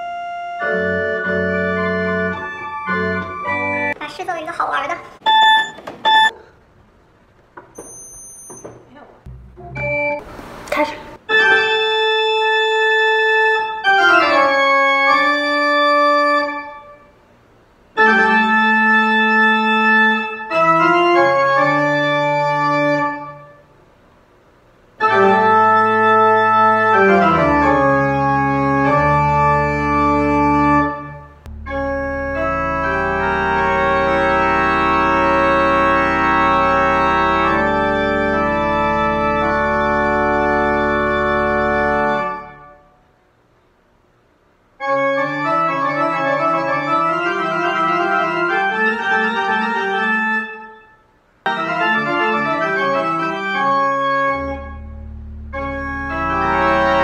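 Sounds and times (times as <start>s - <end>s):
deep organ bass notes: 0.0s - 4.0s, 9.3s - 10.6s, 11.3s - 17.1s, 17.9s - 23.6s, 25.0s - 42.8s, 44.8s - 50.8s, 51.5s - 57.0s
pipe organ playing chords: 0.0s - 4.0s, 9.3s - 10.3s, 11.3s - 17.2s, 17.9s - 23.6s, 25.0s - 42.8s, 44.8s - 50.9s, 51.5s - 57.0s.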